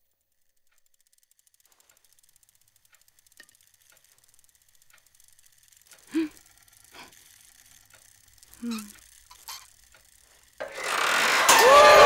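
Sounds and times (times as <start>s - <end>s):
small clicks: 0.0s - 11.8s
clockwork ticking: 0.1s - 12.0s.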